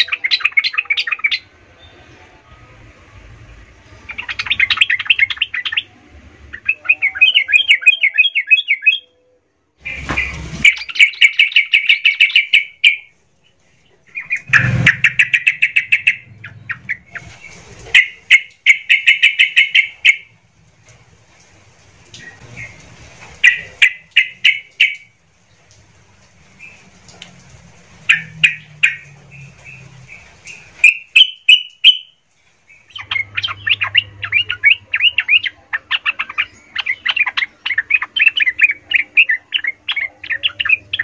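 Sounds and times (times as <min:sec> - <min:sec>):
bulbuls singing chattering song: 0:00.0 - 0:02.2, 0:04.1 - 0:09.1, 0:09.8 - 0:20.4, 0:22.1 - 0:25.2, 0:28.0 - 0:41.0.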